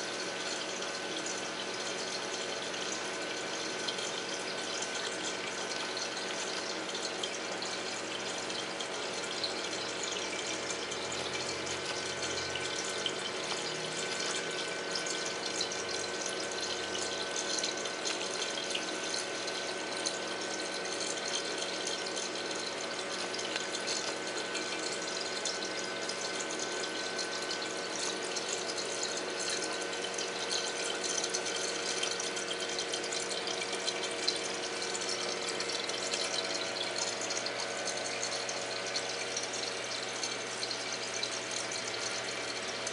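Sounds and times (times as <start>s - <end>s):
aquarium water rushing: 0.0s - 42.9s
pump hum: 0.0s - 42.9s.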